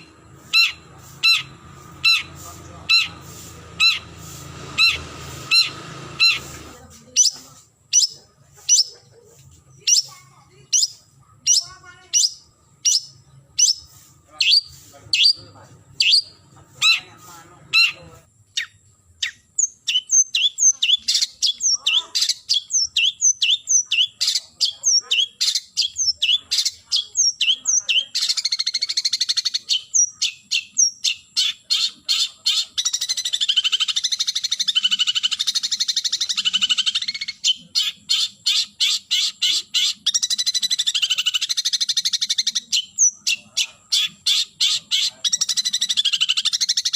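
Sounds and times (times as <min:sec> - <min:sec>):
harsh bird chattering: 0:00.0 - 0:46.9
shrike calling: 0:00.0 - 0:46.9.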